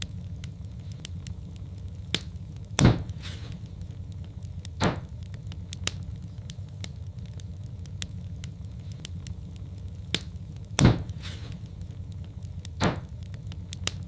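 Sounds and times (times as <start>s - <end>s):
burning logs popping: 0.0s - 14.0s
wood fire crackling: 0.0s - 14.0s.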